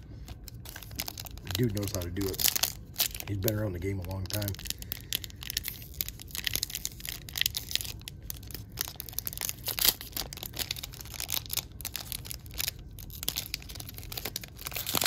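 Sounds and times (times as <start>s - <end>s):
foil wrapper crinkling and tearing: 0.2s - 15.0s.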